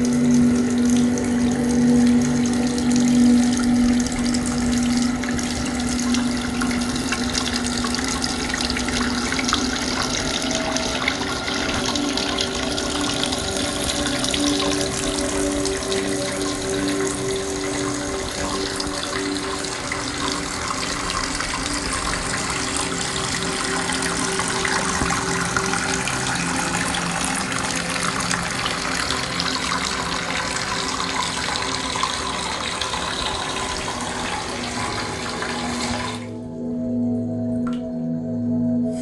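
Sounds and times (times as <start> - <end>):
faucet water splashing into basin: 0.0 - 36.4.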